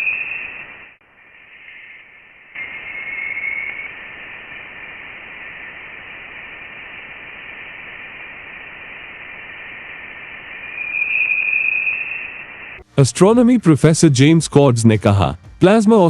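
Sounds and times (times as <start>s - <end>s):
steady static hiss: 0.0s - 13.6s.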